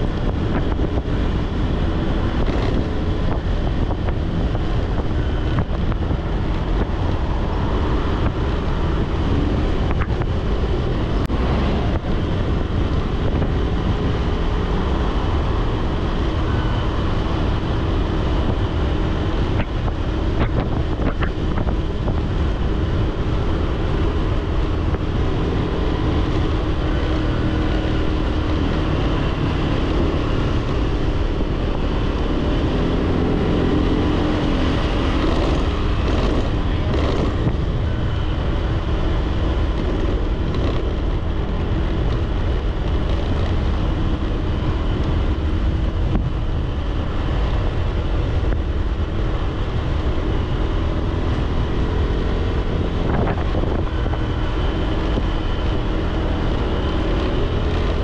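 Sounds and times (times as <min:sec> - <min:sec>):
motorbike road noise: 0:00.0 - 0:58.0
wind buffeting microphone: 0:00.0 - 0:58.0.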